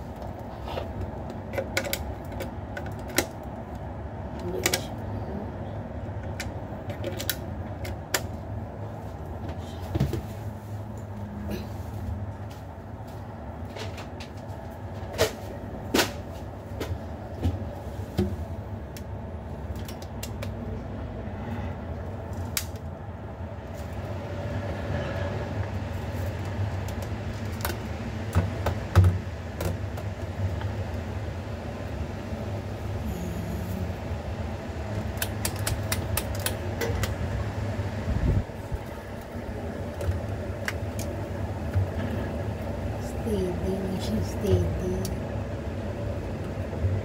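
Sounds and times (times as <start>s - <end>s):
electric fan humming: 0.0s - 47.0s.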